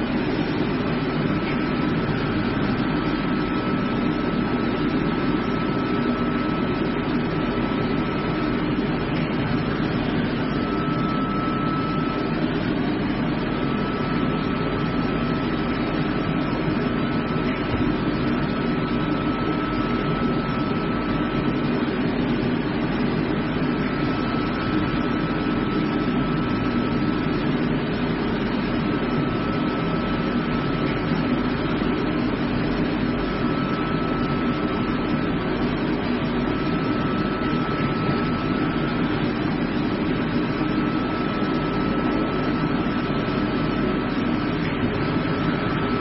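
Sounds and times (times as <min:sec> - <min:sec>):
faint thin whine: 0:00.0 - 0:46.0
water at a rolling boil: 0:00.0 - 0:46.0.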